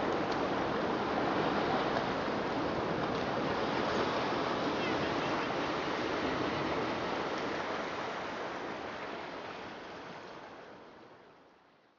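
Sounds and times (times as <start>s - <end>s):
ocean waves washing in: 0.0s - 11.2s.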